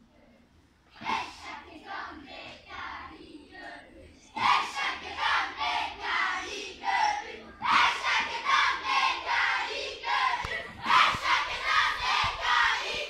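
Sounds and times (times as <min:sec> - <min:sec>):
children chanting in unison: 0:00.9 - 0:03.7, 0:04.3 - 0:13.0.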